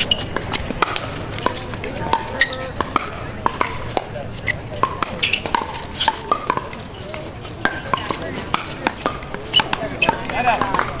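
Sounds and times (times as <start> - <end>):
crowd talking: 0.0 - 11.0
paddles hitting plastic ball: 0.1 - 11.0.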